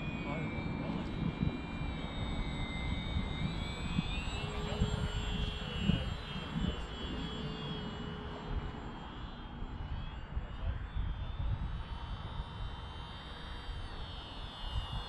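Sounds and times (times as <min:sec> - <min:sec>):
wind on microphone: 0:00.0 - 0:08.7, 0:09.7 - 0:13.1
model plane motor whine: 0:00.0 - 0:15.0.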